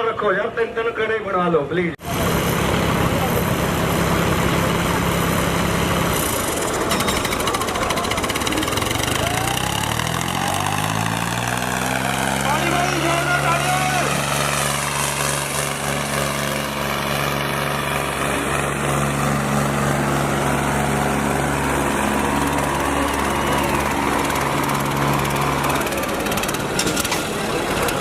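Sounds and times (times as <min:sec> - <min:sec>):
tractor engine running: 0:02.0 - 0:28.0.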